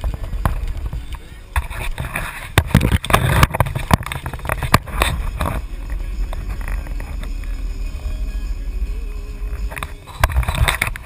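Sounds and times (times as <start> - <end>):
diesel exhaust drone: 0.0 - 11.0
rushing crackling noise: 0.0 - 11.0.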